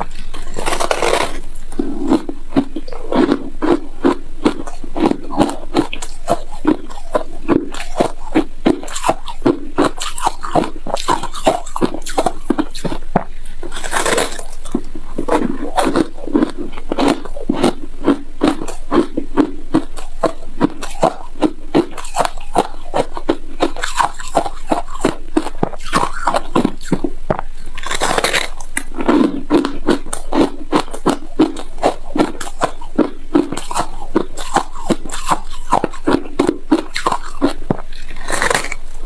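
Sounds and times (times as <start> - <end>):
chewing crunchy ice: 0.0 - 39.0.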